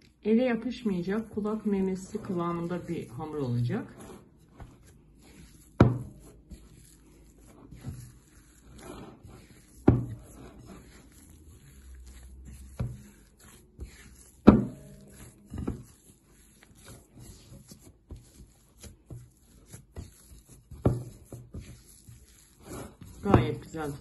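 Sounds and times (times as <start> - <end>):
hands kneading dough: 0.0 - 24.0.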